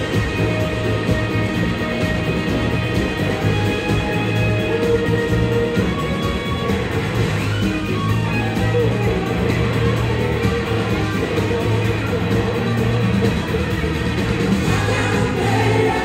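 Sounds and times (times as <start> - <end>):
electric guitar: 0.0 - 16.0
live rock band playing: 0.0 - 16.0.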